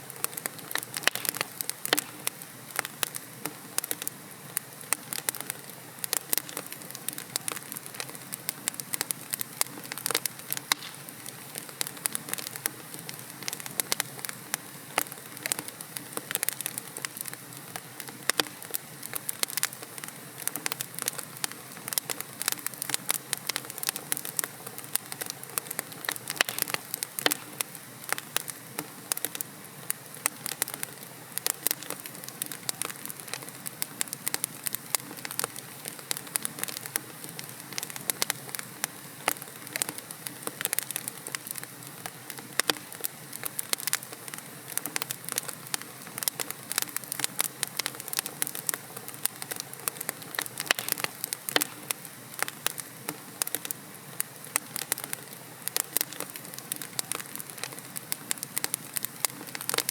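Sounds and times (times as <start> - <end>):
burning logs crackling and popping: 0.0 - 59.9
fire low hiss: 0.0 - 59.9.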